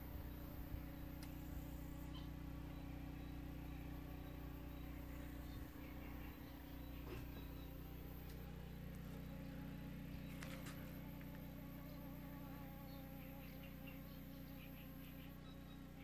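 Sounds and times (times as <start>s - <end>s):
faint bird chirps: 0.1s - 16.0s.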